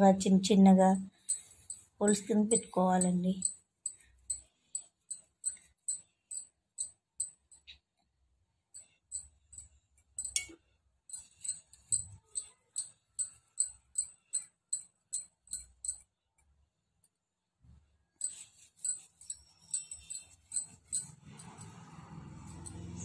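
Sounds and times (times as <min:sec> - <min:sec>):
toothpick clicking on steel plate: 0:00.9 - 0:07.8, 0:08.7 - 0:16.1, 0:18.2 - 0:23.0.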